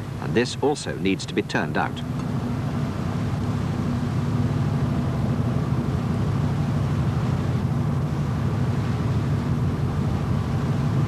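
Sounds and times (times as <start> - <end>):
ship machinery humming: 0.0 - 11.0.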